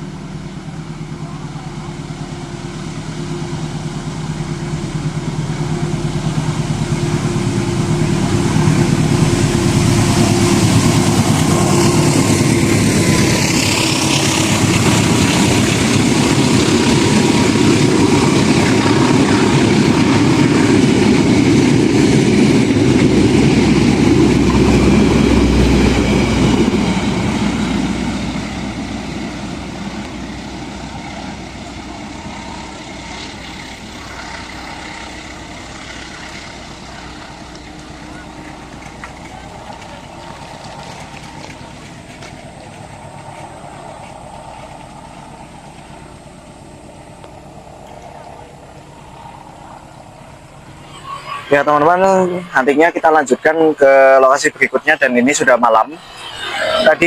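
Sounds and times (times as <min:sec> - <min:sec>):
locomotive engine drone: 0:00.0 - 0:57.0
train carriages rumbling over rails: 0:00.0 - 0:57.0.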